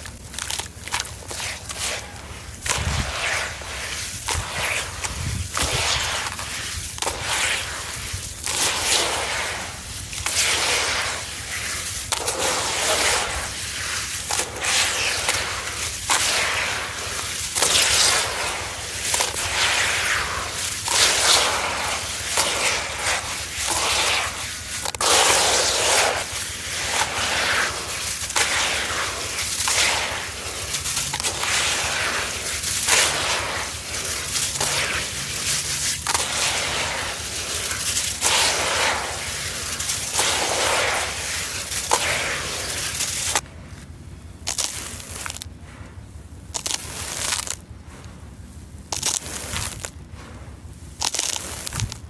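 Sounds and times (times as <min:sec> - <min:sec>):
wet cement mix crumbling: 0:00.0 - 0:52.0.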